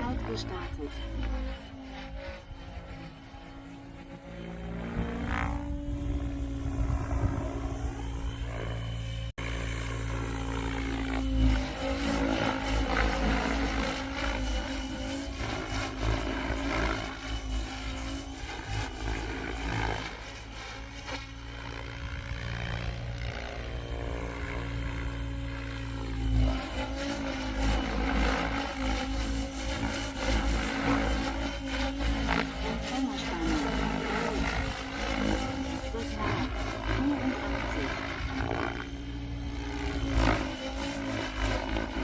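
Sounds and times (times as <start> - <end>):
rc helicopter rotor whirring: 0.0 - 42.0.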